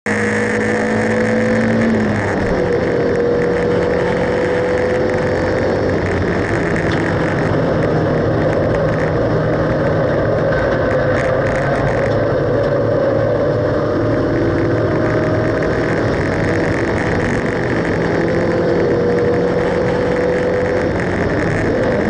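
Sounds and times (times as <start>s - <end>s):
car engine running hard: 0.0s - 22.0s
road and wind noise: 0.0s - 22.0s.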